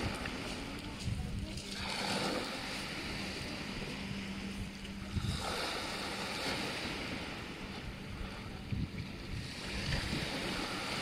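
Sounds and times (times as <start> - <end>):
waves washing on pebble beach: 0.0 - 11.0
wind rumbling on microphone: 0.0 - 11.0.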